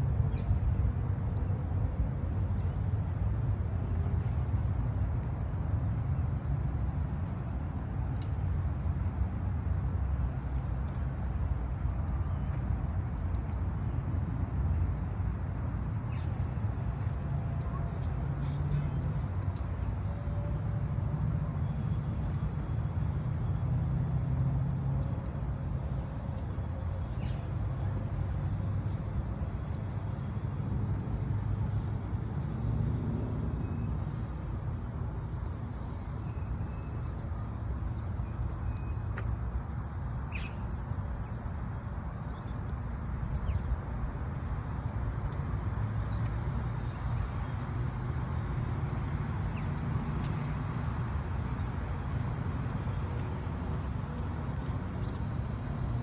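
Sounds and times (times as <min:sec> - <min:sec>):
faint high-pitched clicks and chirps: 0:00.0 - 0:56.0
steady low rumble: 0:00.0 - 0:56.0.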